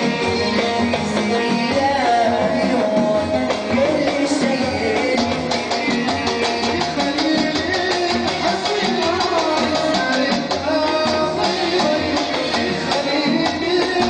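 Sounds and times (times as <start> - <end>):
oud keyboard and percussion music: 0.0 - 14.0.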